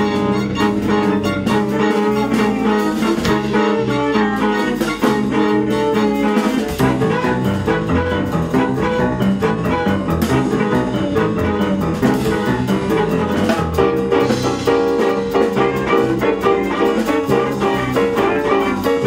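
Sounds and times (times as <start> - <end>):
violin bowing a quick melody: 0.0 - 13.8, 15.6 - 19.0
bass guitar: 0.0 - 19.0
drums: 0.0 - 19.0.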